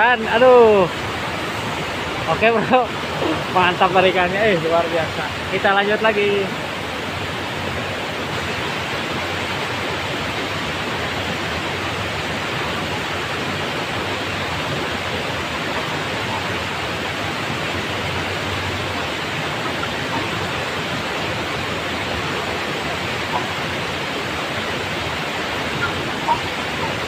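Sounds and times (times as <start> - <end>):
water rushing over a weir: 0.0 - 27.0.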